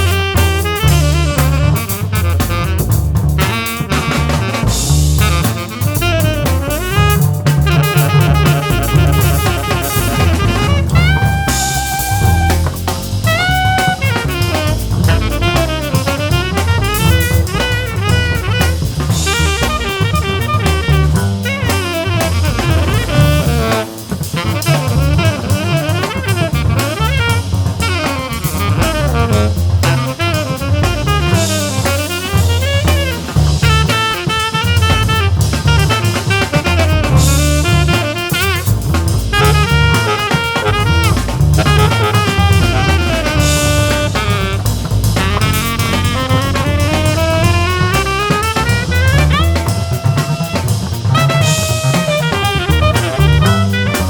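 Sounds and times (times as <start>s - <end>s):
drum kit with rimshots: 0.0s - 54.0s
instrumental jazz band: 0.0s - 54.0s.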